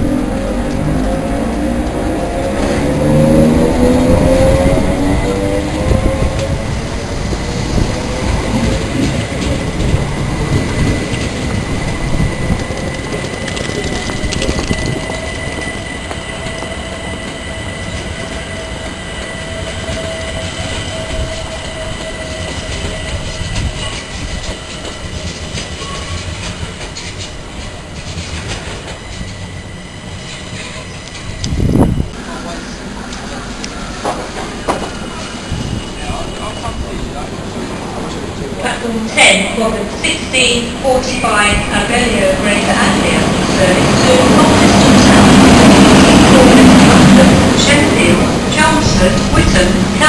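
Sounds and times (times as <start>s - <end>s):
train rail noise: 0.0s - 50.0s.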